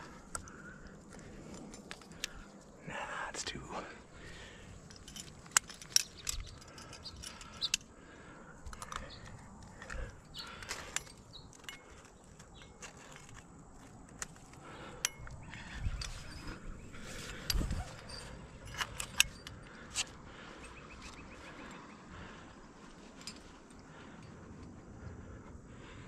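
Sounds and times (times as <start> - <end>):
metal climbing gear clinking: 0.0 - 2.8, 3.4 - 24.8.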